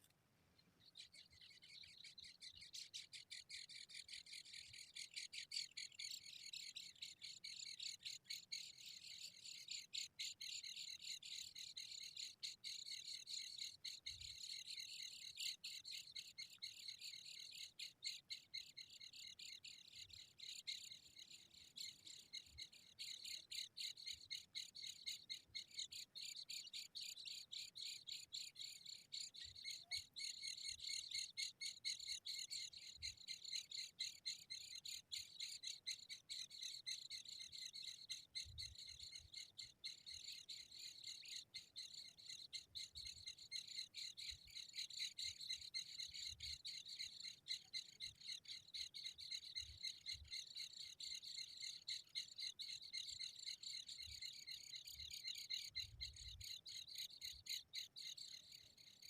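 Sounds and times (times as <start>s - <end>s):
finch chicks chirping: 0.7s - 59.0s.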